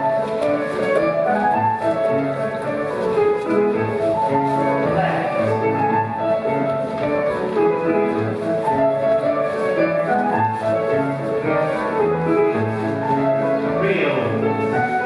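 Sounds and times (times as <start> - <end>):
country dance music: 0.0 - 15.0.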